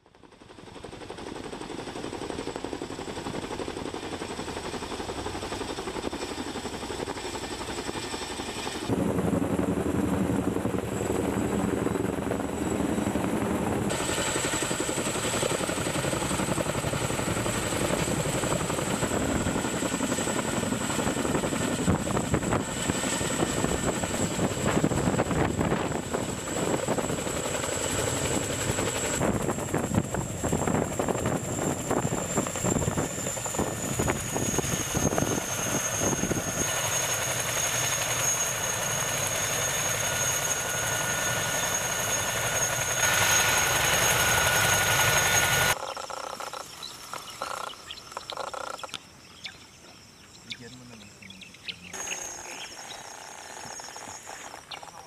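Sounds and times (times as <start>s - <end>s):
military machinery engine: 1.0s - 45.8s.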